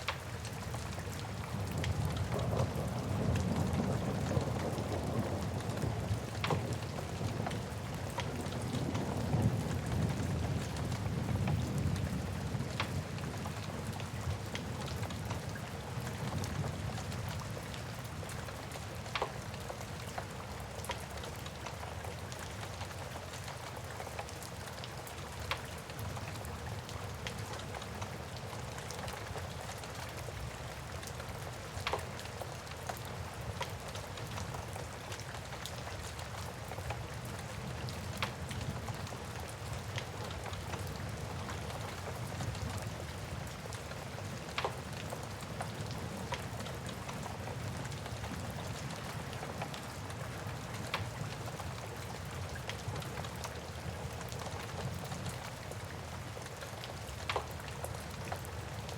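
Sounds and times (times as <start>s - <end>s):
steady rain: 0.0s - 58.9s.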